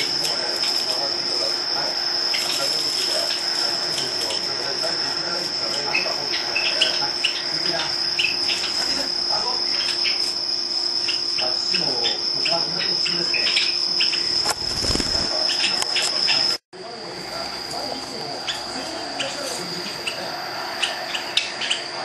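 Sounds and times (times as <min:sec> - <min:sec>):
cricket trilling: 0:00.0 - 0:22.0.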